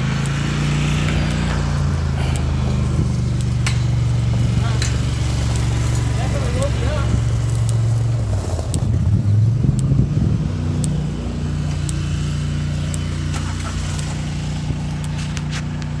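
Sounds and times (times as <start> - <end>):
vehicle engine humming: 0.0 - 16.0
faint clicks: 0.2 - 16.0.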